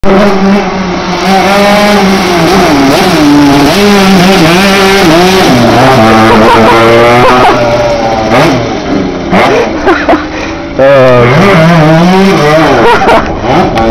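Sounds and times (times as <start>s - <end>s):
two-stroke engine revving: 0.0s - 13.9s.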